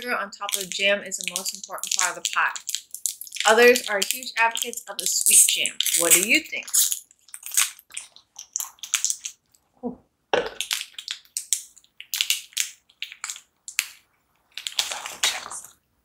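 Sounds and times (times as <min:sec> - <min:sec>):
plastic wrapper crackling: 0:00.0 - 0:09.6, 0:10.4 - 0:15.8.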